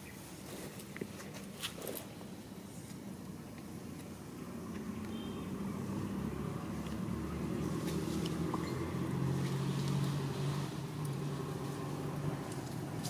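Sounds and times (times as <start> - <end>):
vehicle engine hum: 2.0 - 13.0.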